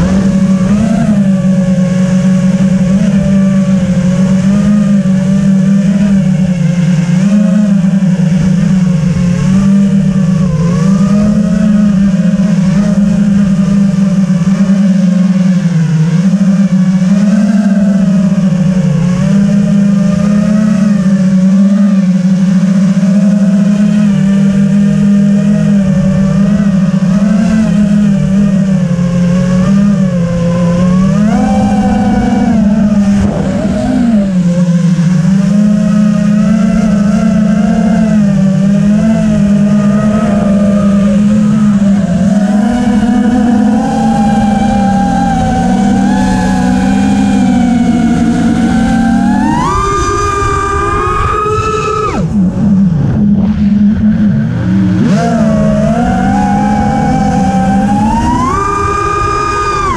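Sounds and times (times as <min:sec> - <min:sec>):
quadcopter motors buzzing: 0:00.0 - 0:59.9.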